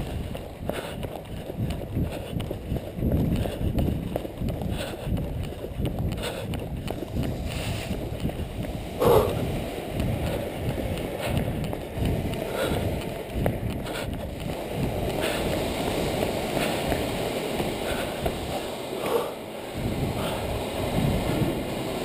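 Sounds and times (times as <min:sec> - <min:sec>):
footsteps on concrete: 0:00.0 - 0:19.5.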